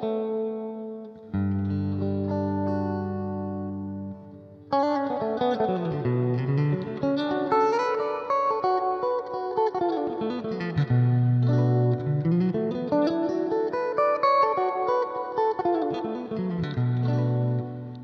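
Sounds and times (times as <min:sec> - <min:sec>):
clean electric guitar with reverb: 0:00.0 - 0:18.0.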